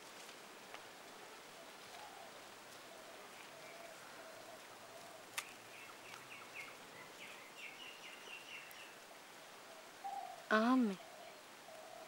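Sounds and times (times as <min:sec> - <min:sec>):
birds calling: 0:01.5 - 0:12.0.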